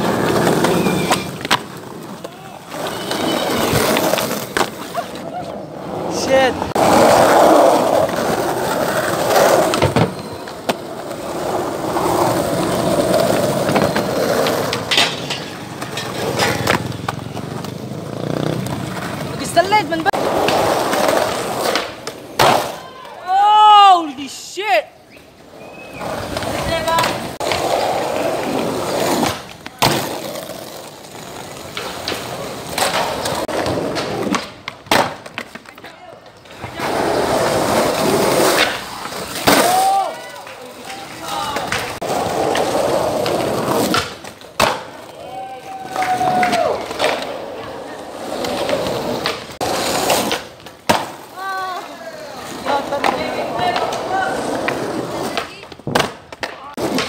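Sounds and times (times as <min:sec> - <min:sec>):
skateboard clacks: 0:00.0 - 0:22.8, 0:25.9 - 0:57.0
skateboard wheels rolling on pavement: 0:00.0 - 0:57.0.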